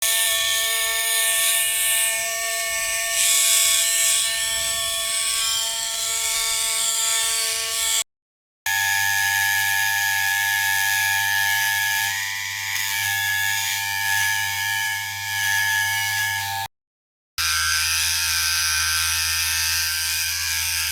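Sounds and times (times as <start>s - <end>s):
electric shaver buzzing: 0.0s - 8.0s, 8.7s - 16.7s, 17.4s - 20.9s.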